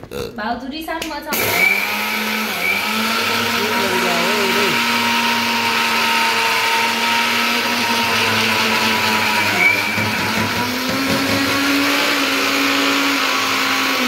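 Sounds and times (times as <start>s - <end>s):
mixer grinder motor whine: 1.3s - 14.0s.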